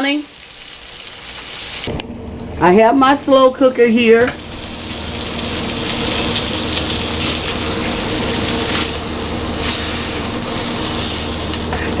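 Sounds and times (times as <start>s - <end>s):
meat sizzling in a skillet: 0.0s - 2.8s, 4.0s - 12.0s.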